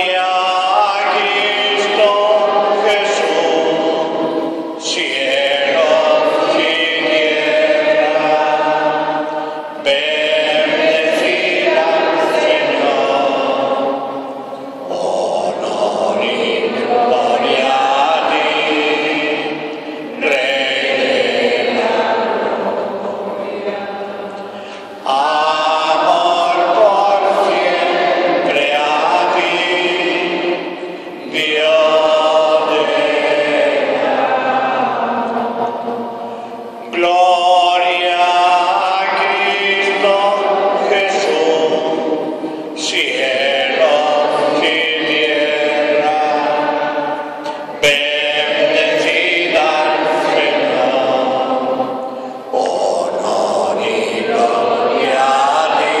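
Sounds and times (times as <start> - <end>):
voices singing a hymn: 0.0 - 56.0.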